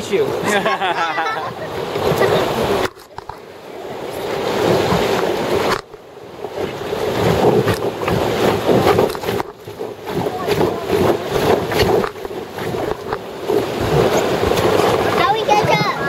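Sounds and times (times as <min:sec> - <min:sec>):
whitewater rushing: 0:00.0 - 0:16.0
wind buffeting microphone: 0:01.1 - 0:16.0.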